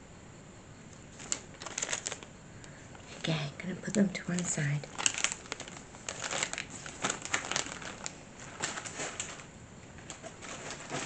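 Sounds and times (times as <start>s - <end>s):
magazines rustling: 1.1s - 11.0s
plastic bags crinkling: 1.1s - 11.0s.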